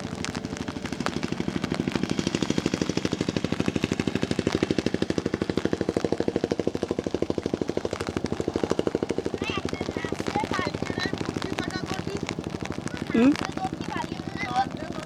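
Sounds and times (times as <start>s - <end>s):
small engine putting: 0.0s - 15.0s.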